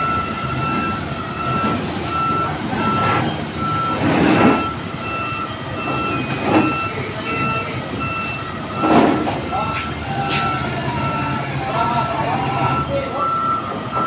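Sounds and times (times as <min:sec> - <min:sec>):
heavy vehicle engine rumble: 0:00.0 - 0:14.0
reversing alarm beeping: 0:00.0 - 0:14.0.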